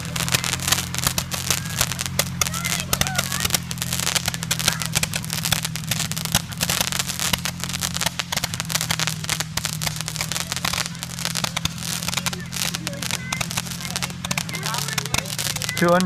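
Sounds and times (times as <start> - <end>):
atv engine running: 0.0 - 16.0
roman candles popping and crackling: 0.0 - 16.0.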